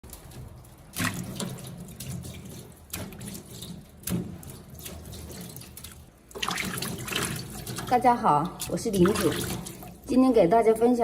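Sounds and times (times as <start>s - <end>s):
tap water running into sink: 0.0s - 10.2s
water splashes: 0.0s - 10.2s.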